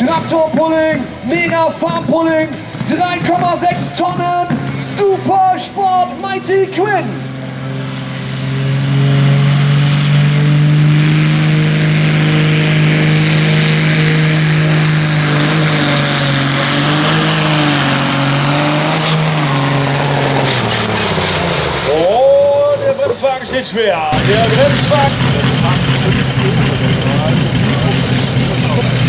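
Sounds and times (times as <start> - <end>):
diesel engine at full throttle: 0.0 - 29.0.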